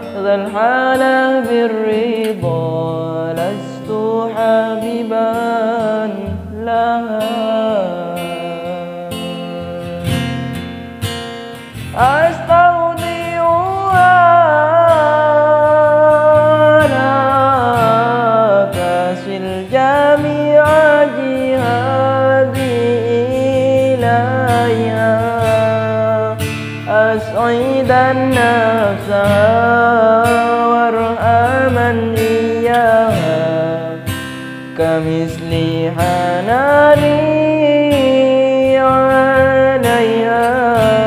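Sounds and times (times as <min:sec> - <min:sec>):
man singing ballad: 0:00.0 - 0:10.6, 0:11.8 - 0:41.0
acoustic guitar: 0:00.0 - 0:41.0.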